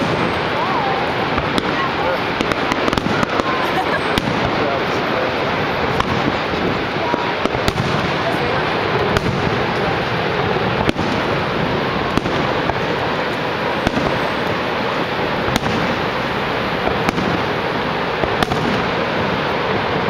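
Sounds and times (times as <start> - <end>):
fireworks bursting: 0.0 - 20.0
waterfall roaring: 0.0 - 20.0.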